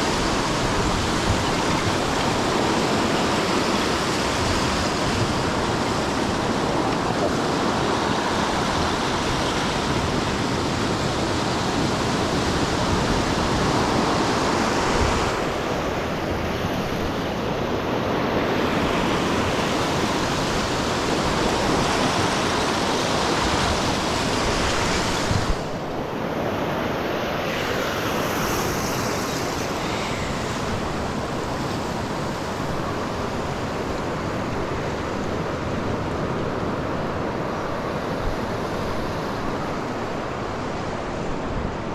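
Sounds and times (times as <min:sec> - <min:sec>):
storm wind: 0:00.0 - 0:41.9.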